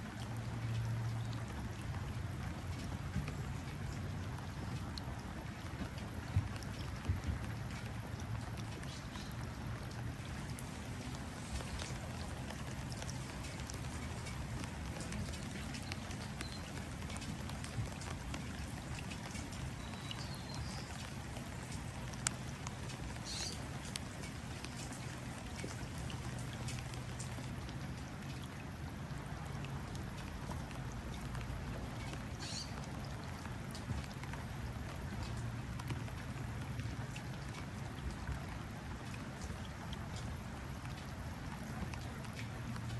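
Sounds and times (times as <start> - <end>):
rain pattering on water: 0.0 - 42.9
water drips ticking: 0.0 - 42.9.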